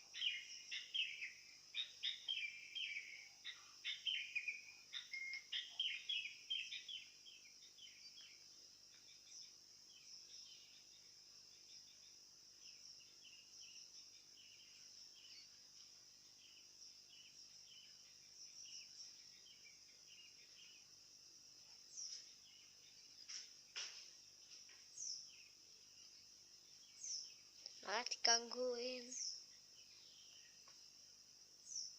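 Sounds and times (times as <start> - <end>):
bird chirping: 0.0 - 31.9
high insect drone: 0.0 - 31.9.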